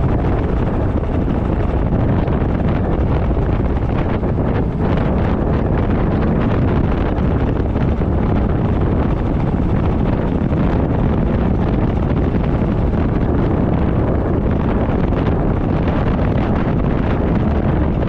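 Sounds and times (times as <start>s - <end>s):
road noise: 0.0s - 14.5s
motorcycle running: 0.0s - 18.0s
wind buffeting microphone: 0.0s - 18.0s.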